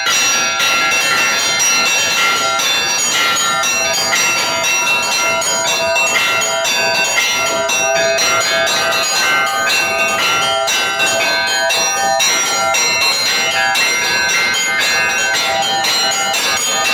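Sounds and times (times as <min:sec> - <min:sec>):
church bells pealing: 0:00.0 - 0:16.9.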